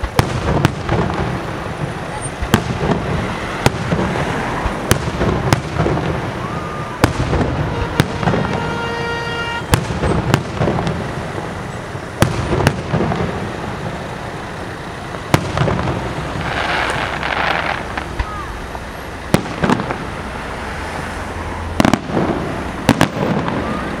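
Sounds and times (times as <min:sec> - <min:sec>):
firework shells bursting: 0:00.0 - 0:20.4
continuous low rumble: 0:00.0 - 0:24.0.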